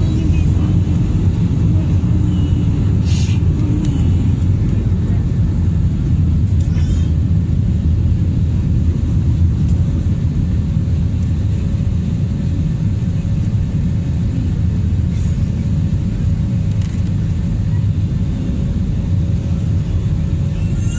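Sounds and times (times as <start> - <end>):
jet engine cabin rumble: 0.0 - 20.9.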